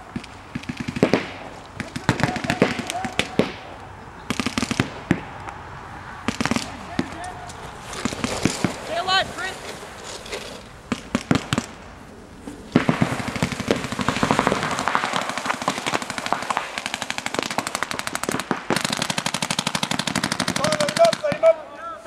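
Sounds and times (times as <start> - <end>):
paintball markers firing: 0.1 - 5.6, 6.2 - 9.1, 10.2 - 11.9, 12.5 - 21.6.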